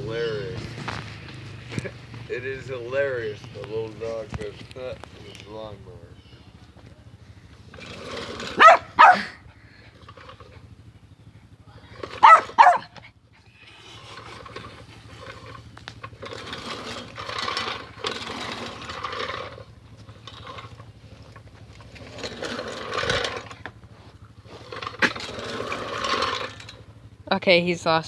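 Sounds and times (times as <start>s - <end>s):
lawnmower running: 0.0s - 28.0s.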